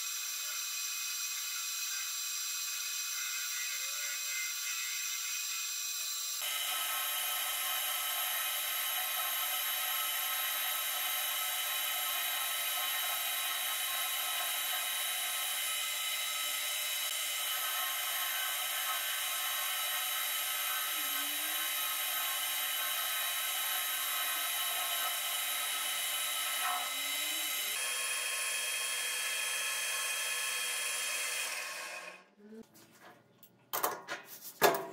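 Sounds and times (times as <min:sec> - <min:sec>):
metal lathe whining: 0:00.0 - 0:32.2
cutting tool hissing: 0:00.0 - 0:32.3.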